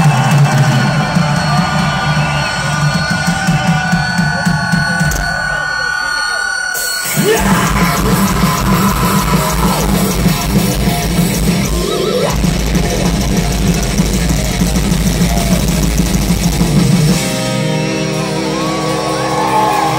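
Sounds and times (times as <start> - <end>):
heavy metal band playing live: 0.0 - 19.9.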